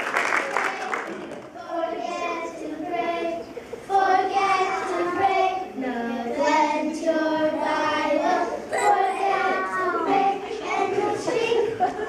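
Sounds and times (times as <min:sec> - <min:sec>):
young children singing: 0:00.5 - 0:12.0.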